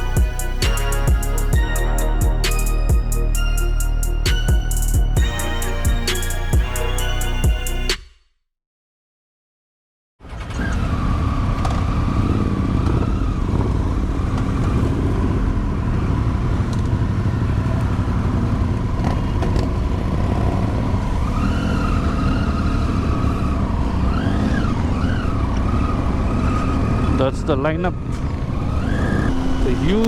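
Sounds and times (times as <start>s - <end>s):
motorcycle engines rumbling: 0.0s - 5.3s, 10.7s - 30.0s.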